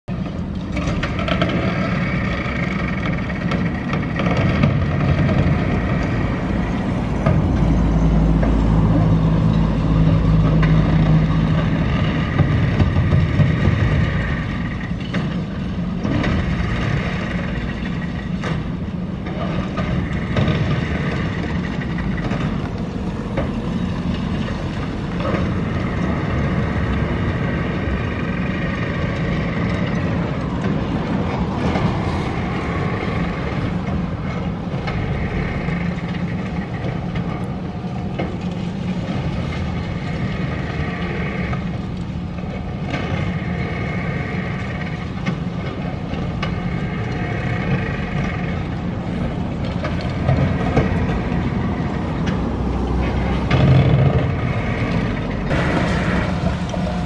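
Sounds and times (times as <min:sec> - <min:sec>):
excavator engine drone: 0:00.1 - 0:57.0.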